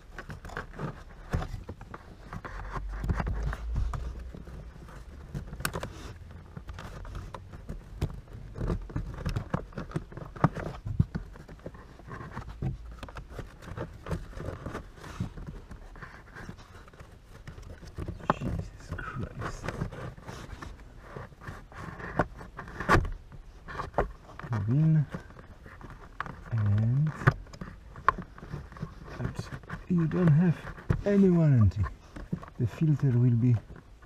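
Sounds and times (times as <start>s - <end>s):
filter scraping against plastic: 0.0s - 34.0s.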